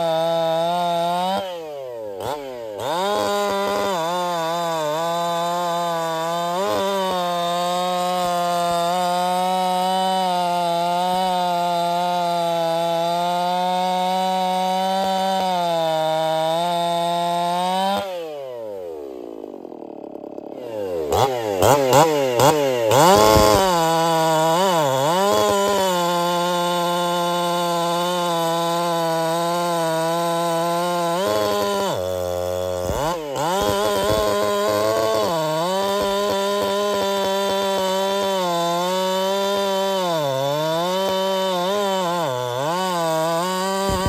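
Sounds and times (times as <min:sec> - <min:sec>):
chainsaw cutting log: 0:00.0 - 0:44.0.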